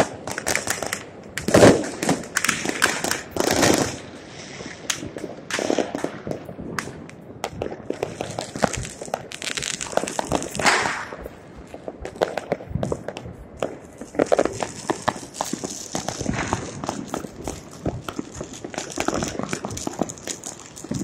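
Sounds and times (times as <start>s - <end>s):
fireworks cracking and banging: 0.0s - 21.0s
hissing crackle: 0.0s - 21.0s.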